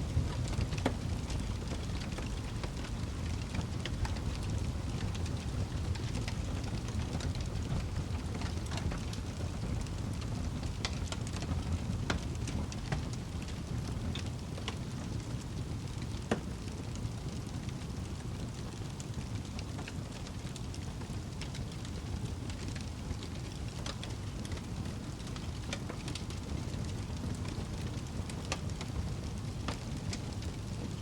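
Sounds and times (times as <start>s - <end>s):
fire crackling and popping: 0.0s - 31.0s
wood fire rumbling: 0.0s - 31.0s.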